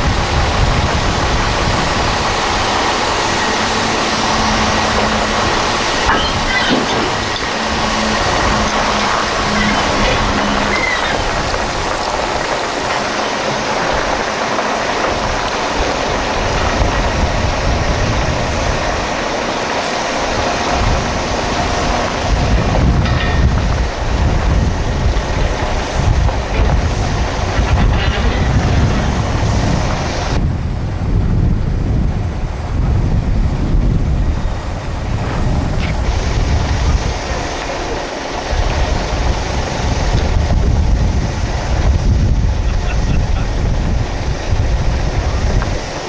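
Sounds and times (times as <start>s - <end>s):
heavy vehicle engine rumbling: 0.0s - 46.0s.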